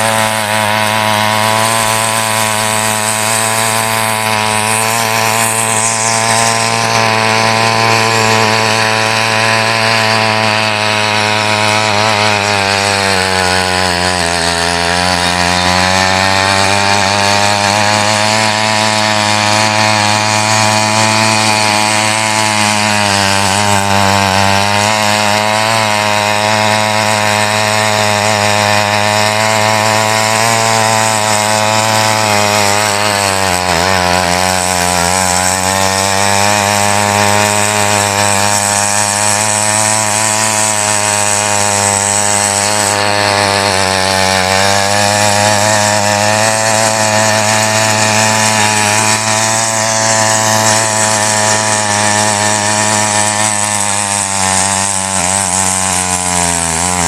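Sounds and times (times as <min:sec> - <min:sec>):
petrol tiller engine revving: 0:00.0 - 0:57.0
tines churning soil: 0:00.0 - 0:57.0.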